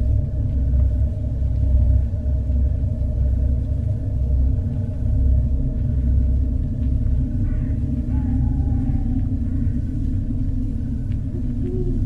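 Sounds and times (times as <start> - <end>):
deep rumbling drone: 0.0 - 12.0.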